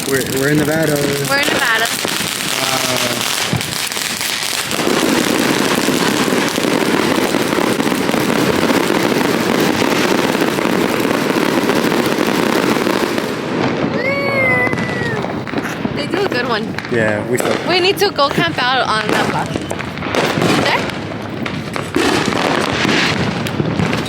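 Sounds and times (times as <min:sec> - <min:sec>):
firework crackling: 0:00.0 - 0:24.0.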